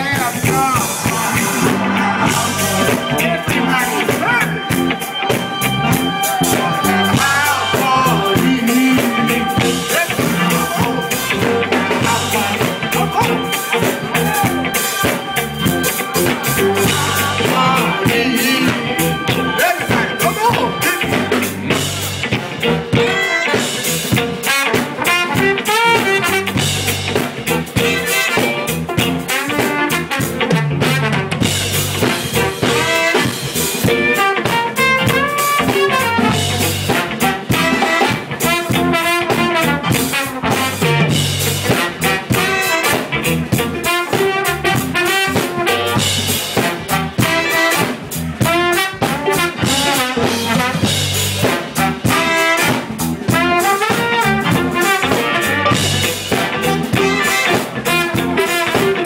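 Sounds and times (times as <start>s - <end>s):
funk band playing: 0.0s - 59.0s
trombone melody: 0.0s - 59.0s.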